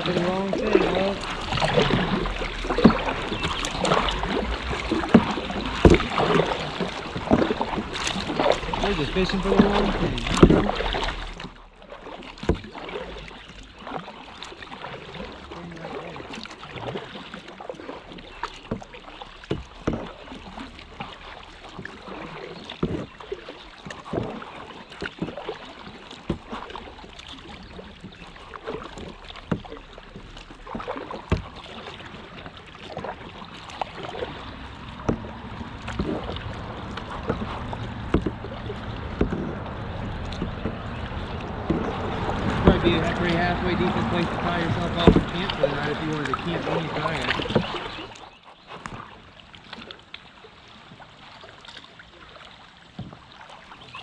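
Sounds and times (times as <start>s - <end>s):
paddle splashing in water: 0.0s - 54.0s.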